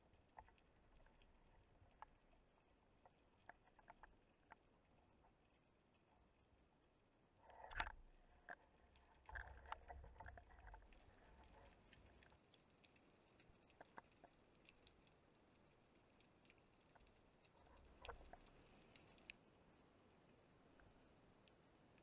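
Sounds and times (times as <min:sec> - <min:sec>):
underwater clicks and crackles: 0:00.0 - 0:22.0.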